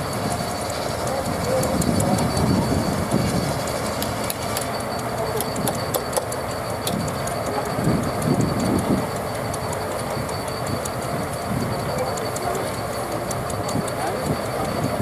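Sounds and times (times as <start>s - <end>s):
fast irregular ticking: 0.0s - 15.0s
steam engine driving circular saw: 0.0s - 15.0s
thin high whine: 0.0s - 15.0s.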